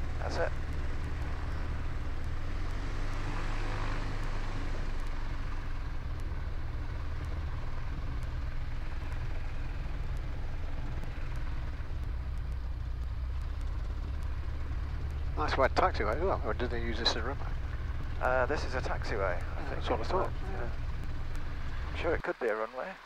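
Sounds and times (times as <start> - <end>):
light aircraft engine and propeller: 0.0 - 23.0.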